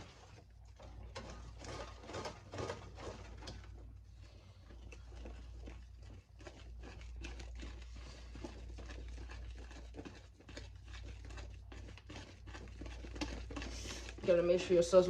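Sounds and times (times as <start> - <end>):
whisk clicking and scraping bowl: 0.0 - 15.0.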